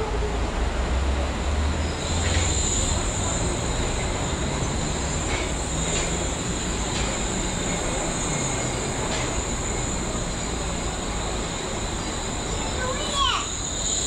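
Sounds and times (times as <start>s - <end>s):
monorail car rumbling: 0.0s - 14.0s.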